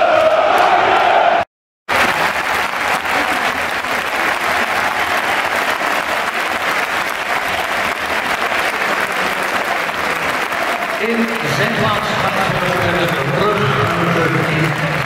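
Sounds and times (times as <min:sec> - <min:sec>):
stadium crowd applauding: 0:01.9 - 0:15.0.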